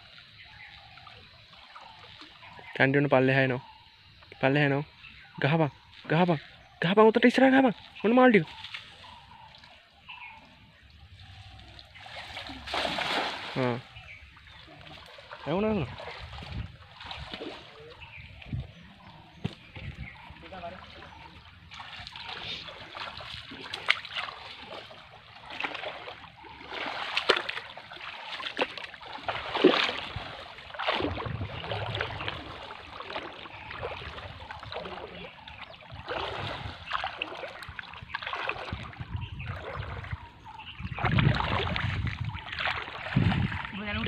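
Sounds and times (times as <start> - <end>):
water splashing from wading: 0.0 - 3.3, 4.9 - 44.0.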